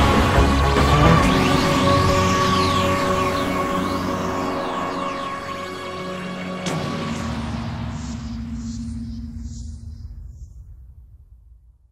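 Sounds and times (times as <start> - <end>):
low droning music note: 0.0 - 9.7
deep rumble: 0.0 - 11.9.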